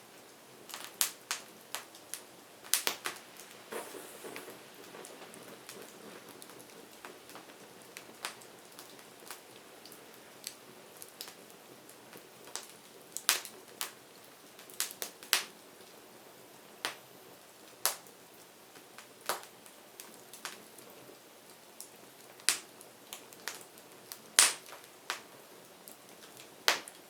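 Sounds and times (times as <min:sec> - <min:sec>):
wood fire crackling and popping: 0:00.1 - 0:16.0, 0:16.8 - 0:27.0.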